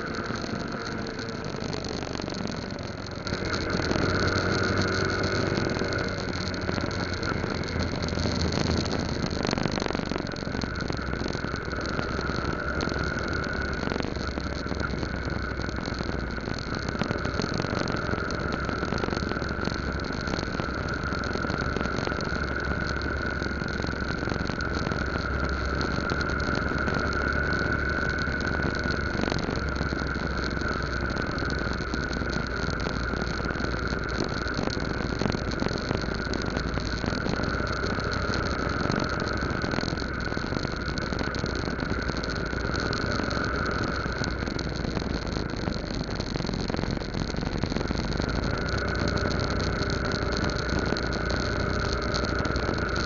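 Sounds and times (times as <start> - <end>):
motorcycle engine whine: 0.0 - 53.0
road and wind noise: 0.0 - 53.0.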